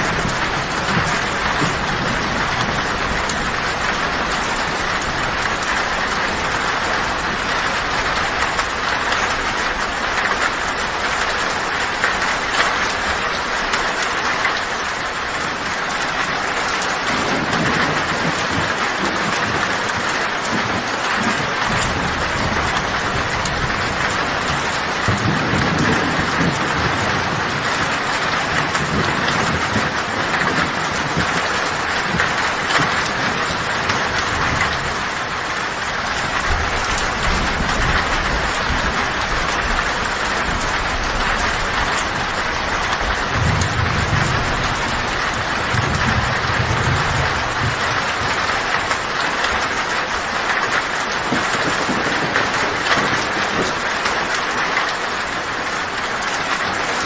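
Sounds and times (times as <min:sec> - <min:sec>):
heavy rain on a tin roof: 0:00.0 - 0:57.0
low thunder rumbling: 0:00.0 - 0:57.0.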